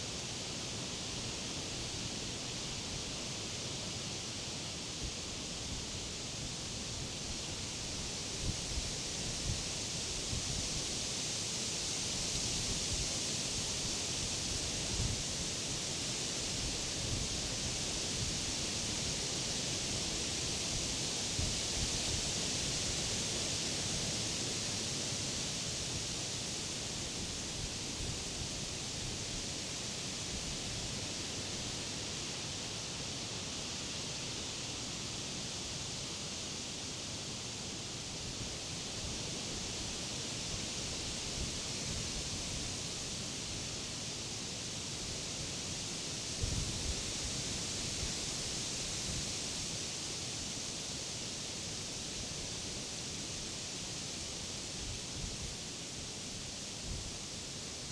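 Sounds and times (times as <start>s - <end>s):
wind rustling leaves: 0.0s - 57.9s.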